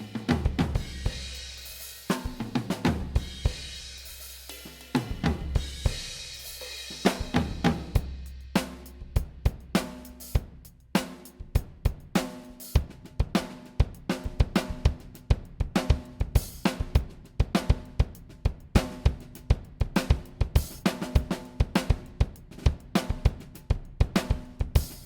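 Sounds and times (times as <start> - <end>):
drum kit playing groove: 0.0 - 25.0.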